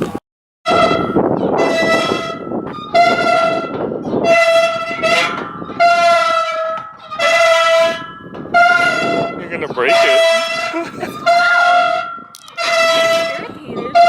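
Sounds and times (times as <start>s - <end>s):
brassy horn blasts: 0.7s - 14.0s.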